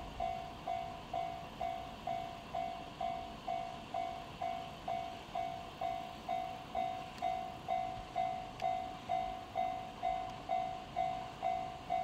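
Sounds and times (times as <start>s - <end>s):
level crossing alarm ringing: 0.2s - 12.0s.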